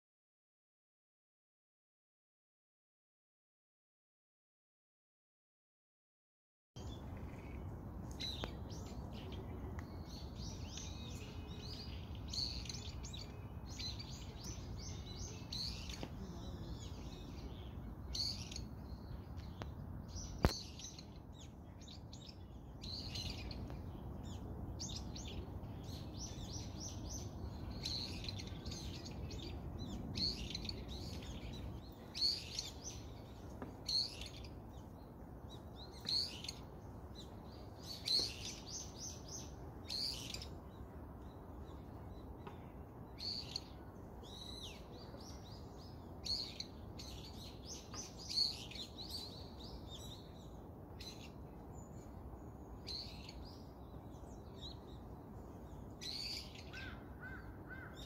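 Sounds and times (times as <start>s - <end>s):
small birds chirping: 6.8s - 58.0s.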